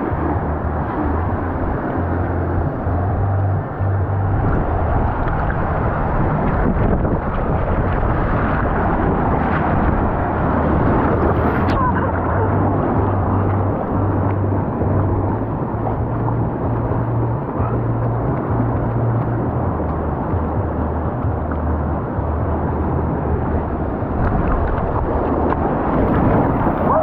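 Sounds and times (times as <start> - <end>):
low rumble: 0.0 - 27.0
water rushing and splashing: 0.0 - 27.0.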